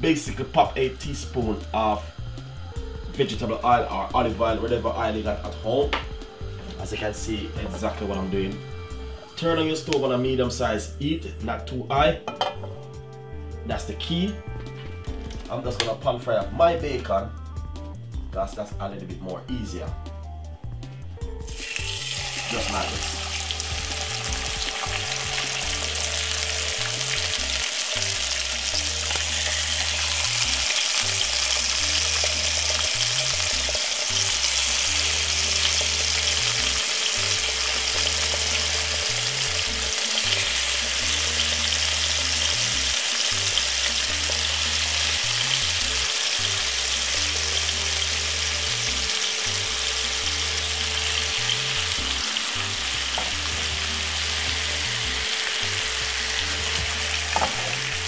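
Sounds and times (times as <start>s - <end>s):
bacon sizzling in frying pan: 0.0s - 10.2s, 21.5s - 58.0s.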